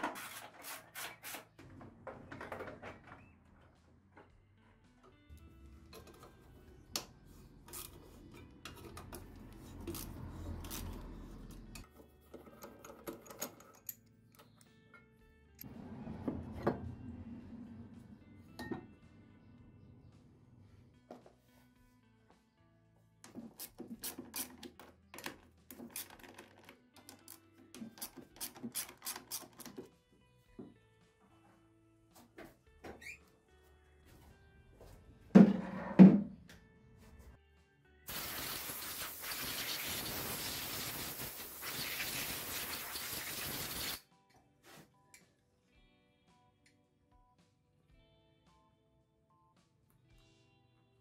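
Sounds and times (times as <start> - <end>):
faint background music: 0.1 - 40.8, 41.4 - 51.0.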